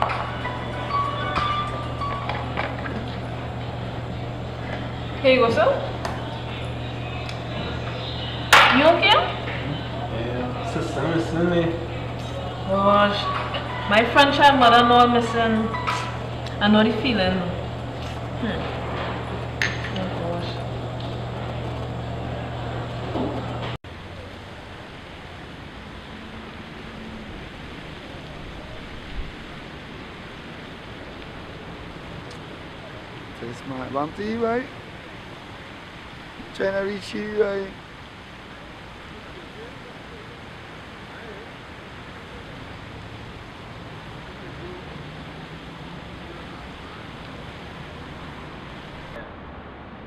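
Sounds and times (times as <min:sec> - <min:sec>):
distant city traffic: 0:00.0 - 0:50.0
wind: 0:00.0 - 0:50.0.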